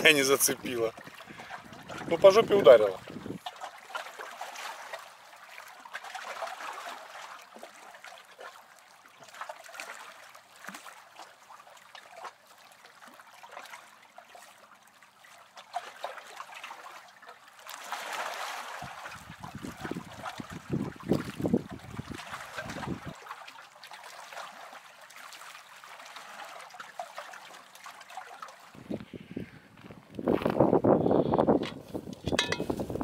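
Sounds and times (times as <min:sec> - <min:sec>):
water trickling: 0:00.0 - 0:29.7, 0:31.9 - 0:33.0.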